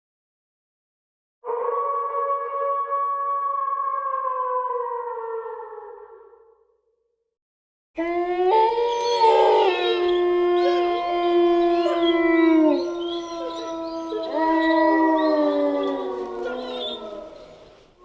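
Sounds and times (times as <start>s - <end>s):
wolves howling: 1.4s - 6.2s, 8.0s - 17.8s.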